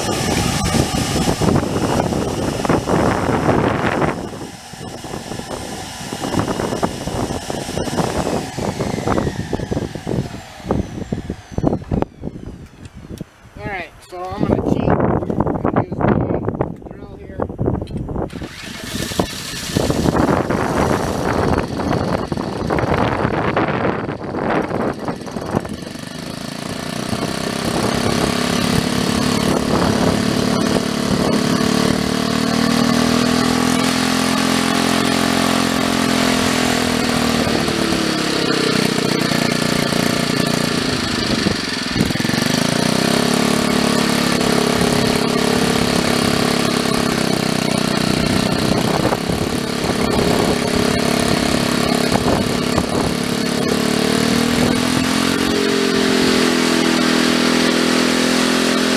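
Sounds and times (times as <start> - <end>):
generator engine running: 0.0 - 14.9, 18.3 - 58.9.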